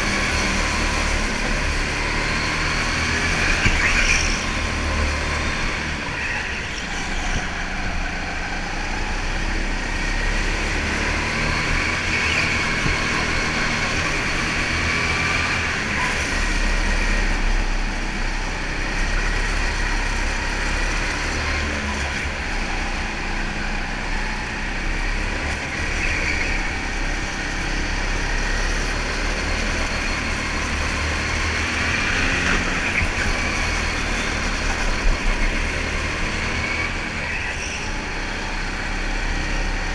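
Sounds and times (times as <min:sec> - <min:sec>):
go-kart engine running: 0:00.0 - 0:39.9
wind and track noise: 0:00.0 - 0:39.9.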